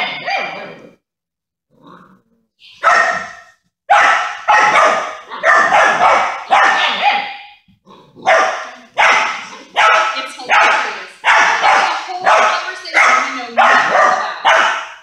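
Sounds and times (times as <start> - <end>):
puppy barking: 0.0 - 1.0, 2.7 - 7.6, 8.2 - 15.0.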